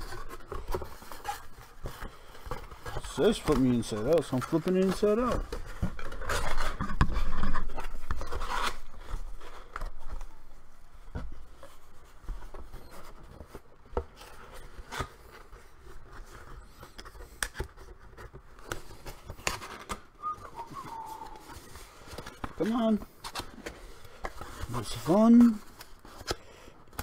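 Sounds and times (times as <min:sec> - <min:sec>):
cardboard box rustling: 0:00.0 - 0:26.4.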